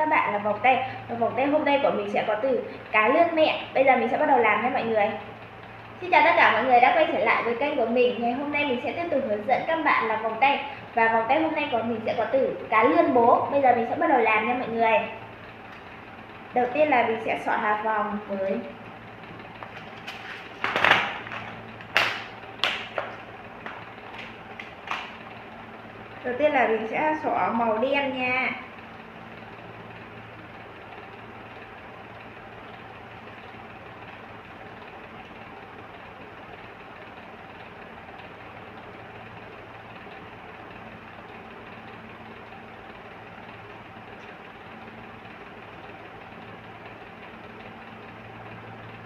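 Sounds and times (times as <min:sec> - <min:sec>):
steady mechanical hum: 0:00.0 - 0:49.0.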